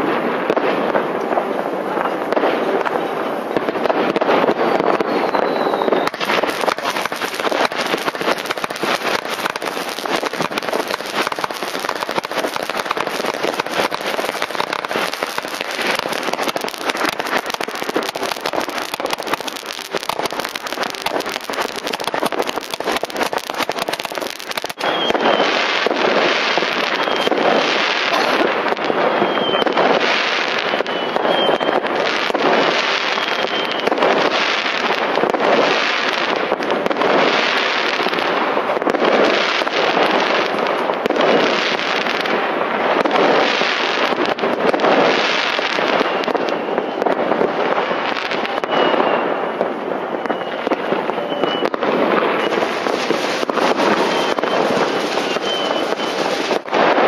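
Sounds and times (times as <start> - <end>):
fireworks crackling bangs: 0.0 - 57.0
firework whistles: 3.6 - 57.0.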